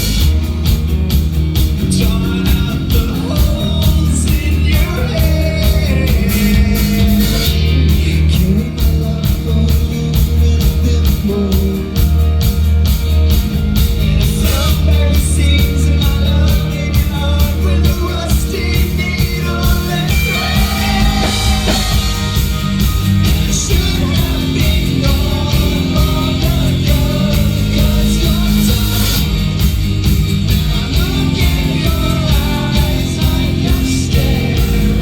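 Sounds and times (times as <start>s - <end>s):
drums beating: 0.0s - 35.0s
live rock band playing: 0.0s - 35.0s
person singing: 1.8s - 12.3s, 14.0s - 29.4s, 30.5s - 35.0s.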